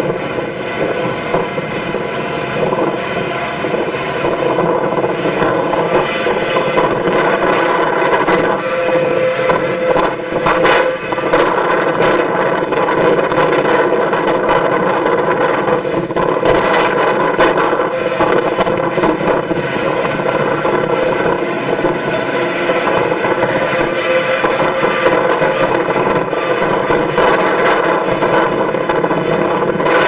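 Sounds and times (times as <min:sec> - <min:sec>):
machine engine droning: 0:00.0 - 0:30.0
rattling noise: 0:00.0 - 0:30.0.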